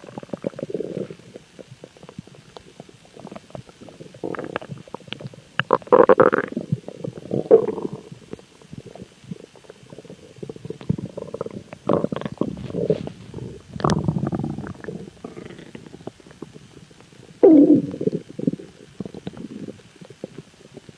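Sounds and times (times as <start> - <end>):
stomach growling: 0.0 - 20.9.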